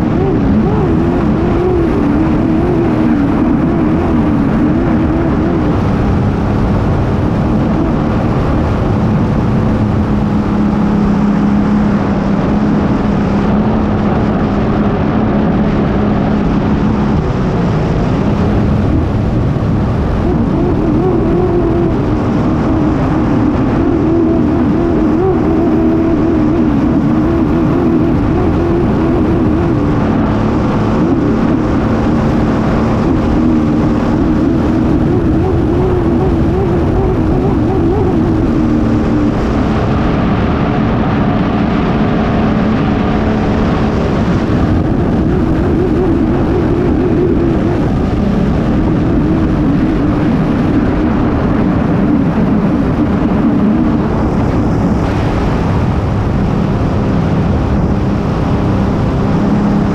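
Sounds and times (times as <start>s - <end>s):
racing boat engine at speed: 0.0s - 59.9s
rush of wind and spray: 0.0s - 59.9s.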